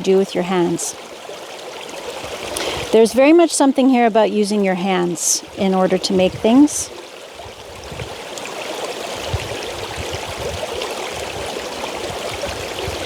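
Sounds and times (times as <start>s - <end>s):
water lapping at shoreline: 0.0s - 13.0s.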